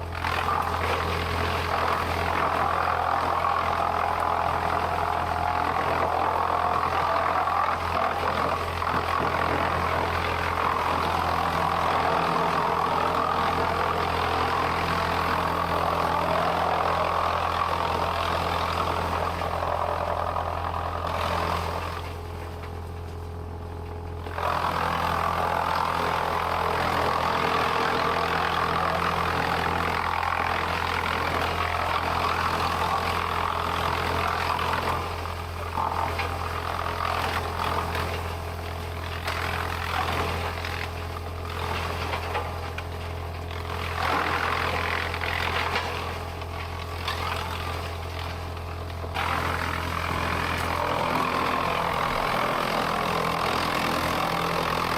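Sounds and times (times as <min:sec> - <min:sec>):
noisy sawmill working sound: 0:00.0 - 0:54.9.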